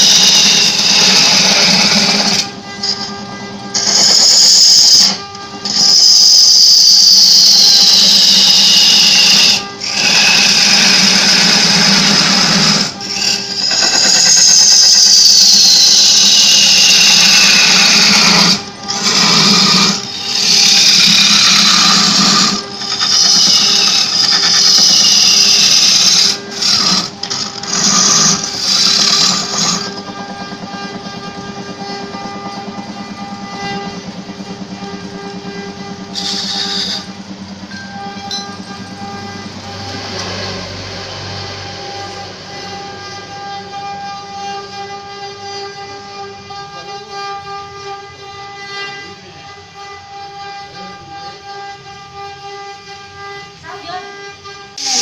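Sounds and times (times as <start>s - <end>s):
gouge scraping wood on lathe: 0.0s - 55.0s
shrill lathe whine: 0.0s - 55.0s.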